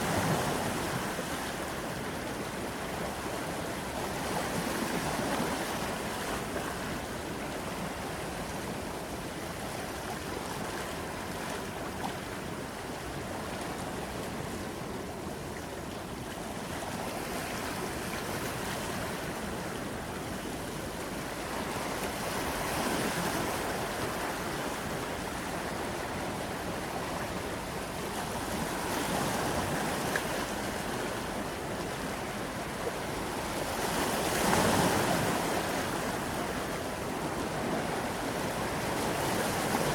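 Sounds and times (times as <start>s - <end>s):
sea waves breaking on shore: 0.0s - 8.0s, 9.4s - 39.9s.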